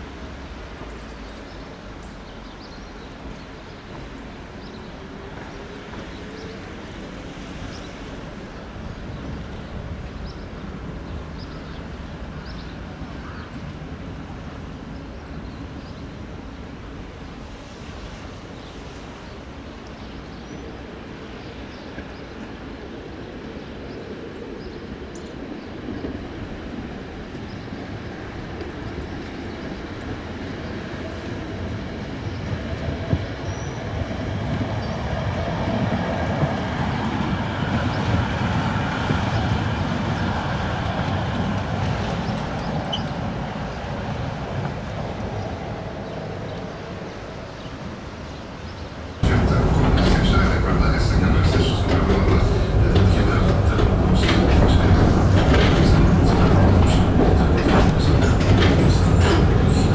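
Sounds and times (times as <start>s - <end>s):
traffic rumble: 0.0s - 59.9s
tram approaching: 0.0s - 59.9s.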